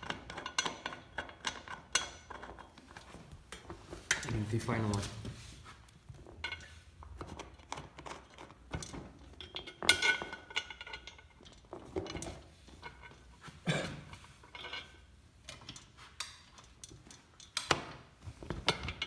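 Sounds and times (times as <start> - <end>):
metal clinks and scrapes: 0.0 - 19.0.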